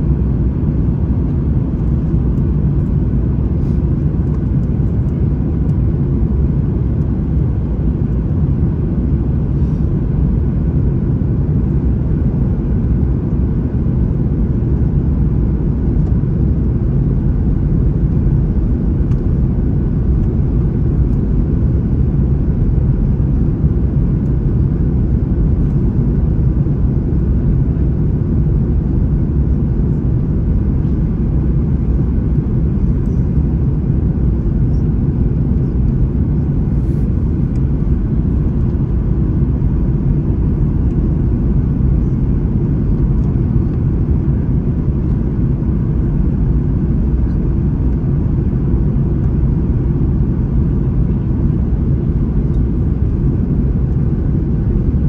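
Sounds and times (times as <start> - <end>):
airplane engines and rushing air: 0.0 - 55.0.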